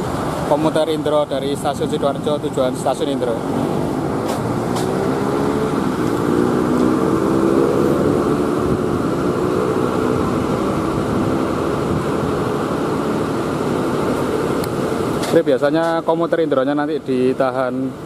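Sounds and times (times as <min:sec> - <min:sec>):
even rushing noise: 0:00.0 - 0:15.8
engine drone: 0:00.0 - 0:18.0.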